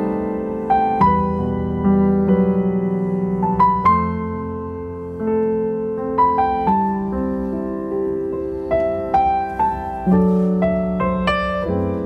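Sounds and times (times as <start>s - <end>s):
solo piano slow melody: 0.0s - 12.0s.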